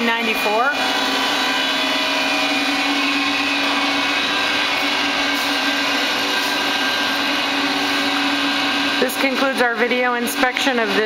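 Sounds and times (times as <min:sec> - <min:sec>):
machine hum and whine: 0:00.0 - 0:11.0.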